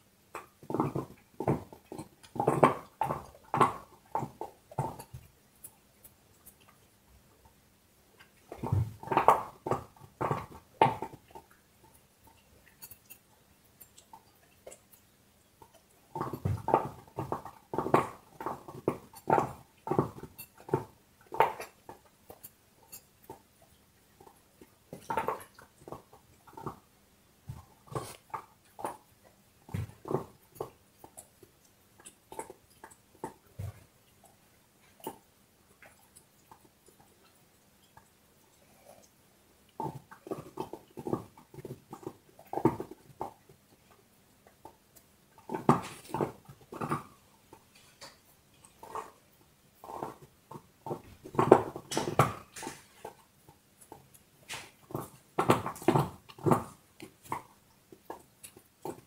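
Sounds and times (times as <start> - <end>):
dog gnawing on bone: 0.3 - 7.5, 8.2 - 26.9, 27.5 - 59.0.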